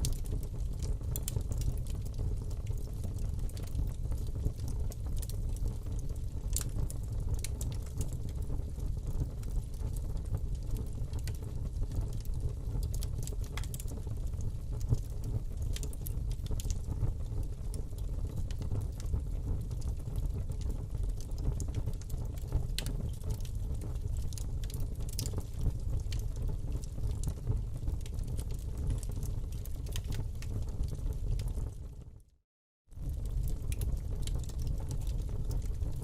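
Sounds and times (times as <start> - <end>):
fire flames rumbling: 0.0 - 32.0, 33.0 - 36.0
wood fire crackling and popping: 0.0 - 32.2, 33.0 - 36.0.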